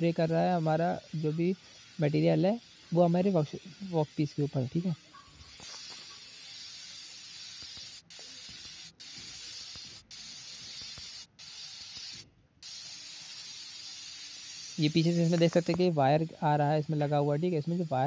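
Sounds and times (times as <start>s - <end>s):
metal spray gun hissing: 0.0s - 18.0s.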